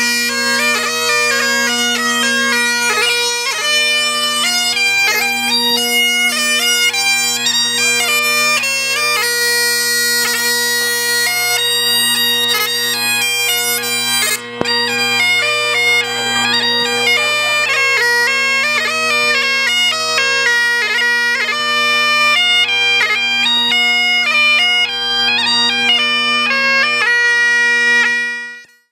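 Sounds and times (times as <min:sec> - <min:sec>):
bagpipe melody over drones: 0:00.0 - 0:28.9.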